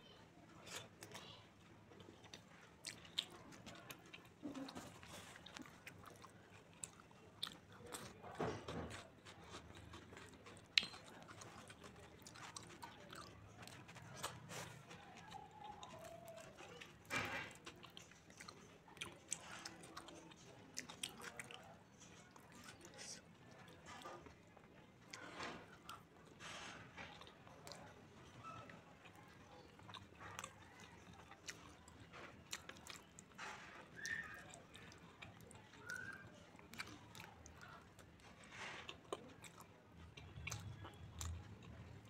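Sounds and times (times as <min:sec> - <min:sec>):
chewing and wet mouth smacks: 0:00.5 - 0:42.0.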